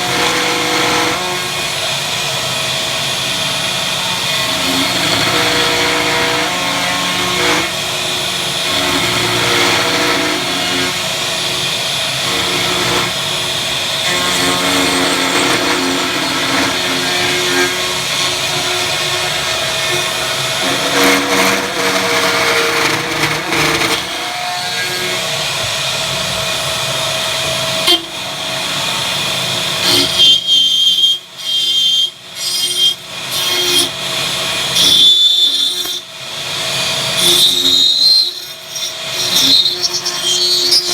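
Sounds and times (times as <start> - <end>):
power tool whining: 0.0 - 40.9.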